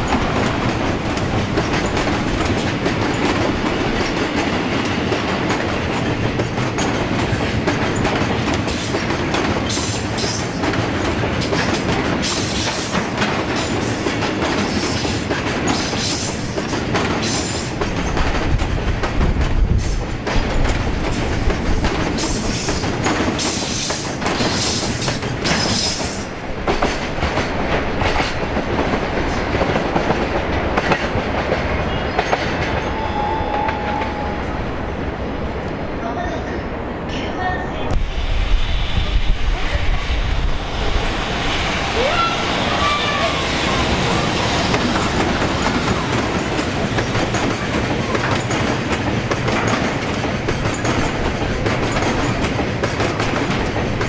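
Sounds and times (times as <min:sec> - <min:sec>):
train wheels clacking over rail joints: 0:00.0 - 0:32.9, 0:43.5 - 0:54.0.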